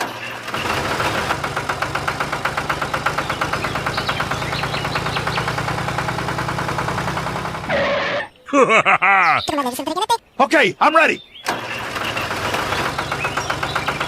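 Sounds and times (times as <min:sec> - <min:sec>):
tractor engine idling: 0:00.0 - 0:08.2, 0:10.0 - 0:14.0.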